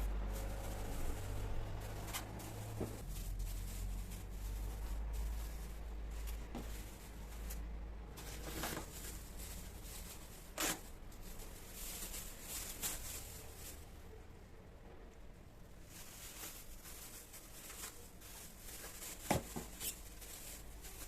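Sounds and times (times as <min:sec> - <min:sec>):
rustling and handling: 0:00.0 - 0:21.0.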